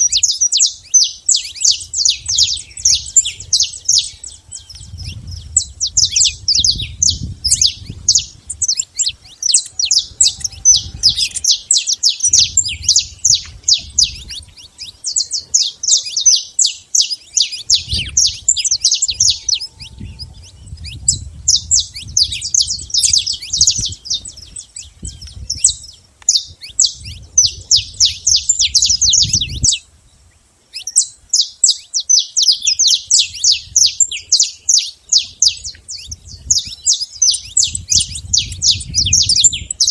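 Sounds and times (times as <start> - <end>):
finch singing rapid high chirps: 0.0 - 29.8, 30.8 - 39.9.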